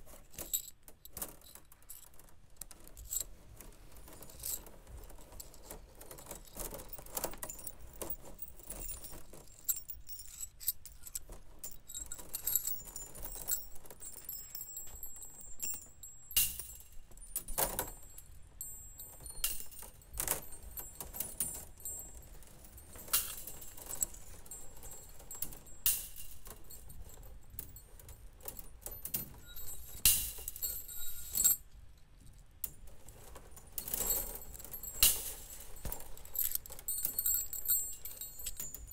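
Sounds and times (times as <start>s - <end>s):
metal wires rattling and jangling: 0.0s - 31.8s, 32.5s - 38.9s.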